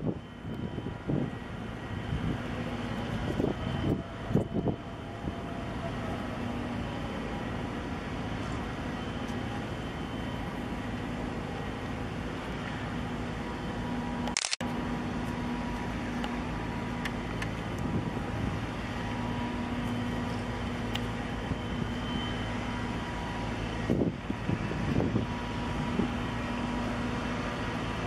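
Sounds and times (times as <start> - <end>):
ship engine drone: 0.0 - 28.0
wind and water noise: 0.0 - 28.0.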